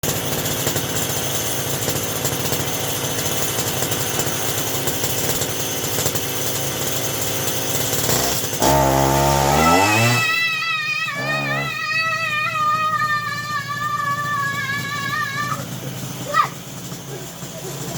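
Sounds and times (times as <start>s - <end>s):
chainsaw engine buzzing and revving: 0.1s - 17.9s.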